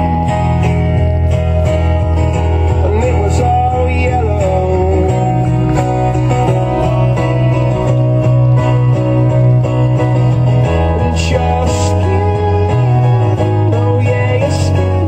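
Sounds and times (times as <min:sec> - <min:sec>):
bass line: 0:00.0 - 0:15.0
guitar music: 0:00.0 - 0:15.0.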